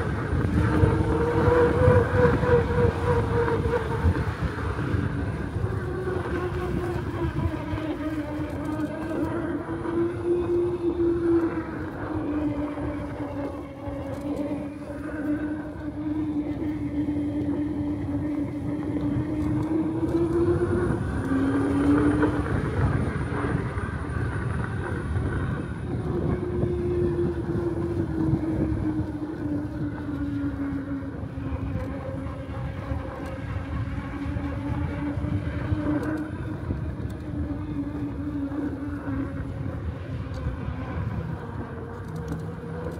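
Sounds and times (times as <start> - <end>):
electric bike motor whining: 0.0 - 42.9
wind and road noise: 0.0 - 42.9.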